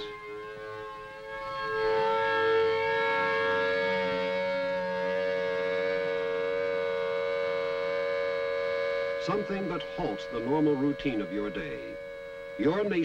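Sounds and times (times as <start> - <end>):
civil defense siren: 0.0 - 13.0.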